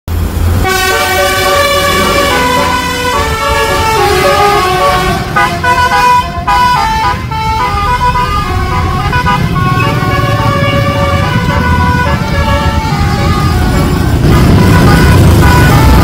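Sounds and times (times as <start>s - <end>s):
bus engine rumble: 0.1s - 16.0s
bus air horn melody: 0.6s - 16.0s.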